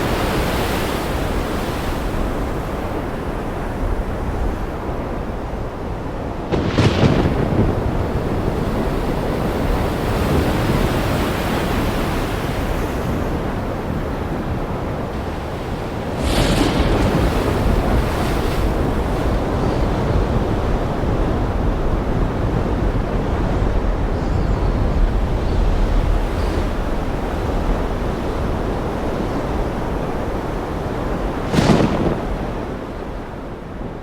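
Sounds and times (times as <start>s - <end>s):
ocean waves washing: 0.0s - 34.0s
wind: 0.0s - 34.0s.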